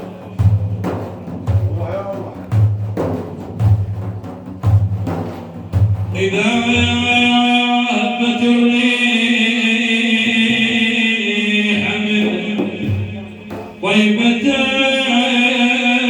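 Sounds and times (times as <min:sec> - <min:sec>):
drum beats: 0:00.0 - 0:16.0.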